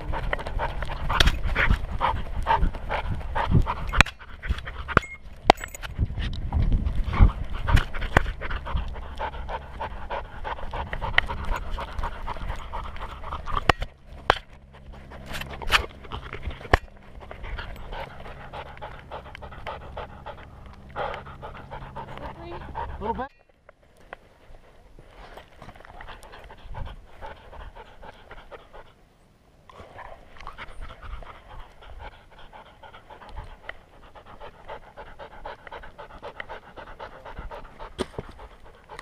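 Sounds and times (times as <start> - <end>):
puppy panting: 0.0 - 5.3, 5.9 - 23.4, 24.3 - 29.0, 29.8 - 39.0.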